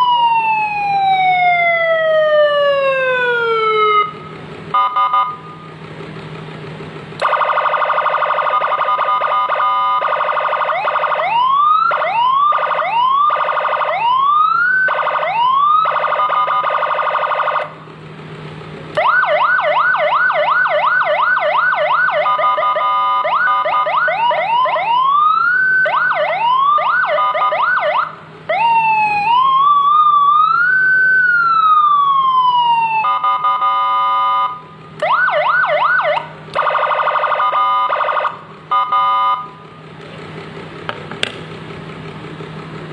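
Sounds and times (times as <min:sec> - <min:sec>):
electronic motorcycle siren: 0:00.0 - 0:05.7, 0:07.2 - 0:17.8, 0:19.0 - 0:39.7.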